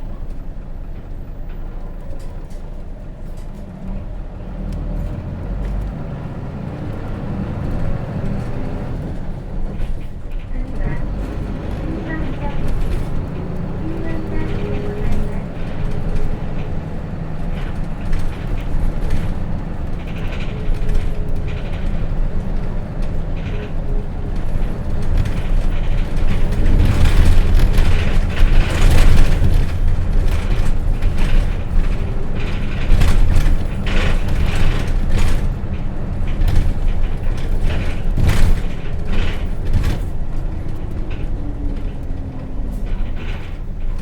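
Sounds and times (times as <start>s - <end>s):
bus diesel engine and road noise: 0.0s - 44.0s
rattles and clicks from bus body: 0.0s - 44.0s.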